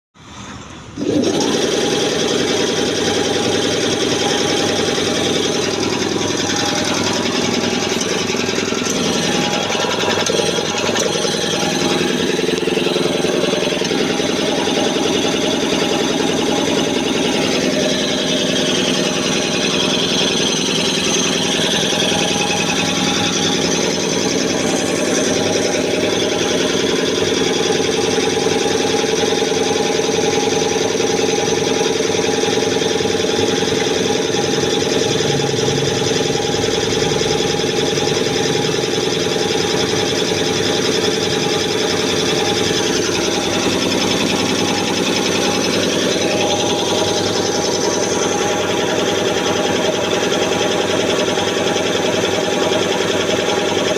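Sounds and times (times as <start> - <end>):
air compressor clattering: 1.0 - 53.9.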